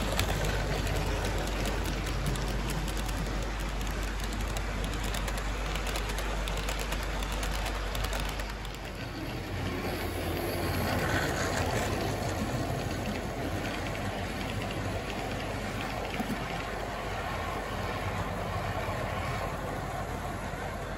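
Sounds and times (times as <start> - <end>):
model train wheels rattling: 0.0 - 19.5.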